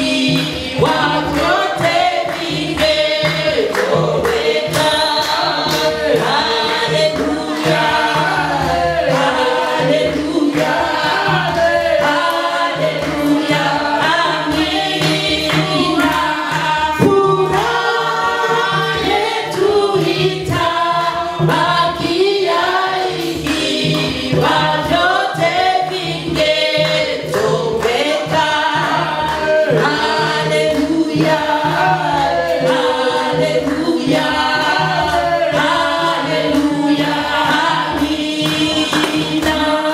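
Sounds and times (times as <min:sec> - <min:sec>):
choir singing gospel song: 0:00.0 - 0:39.9
low pulsing beat: 0:00.0 - 0:39.9.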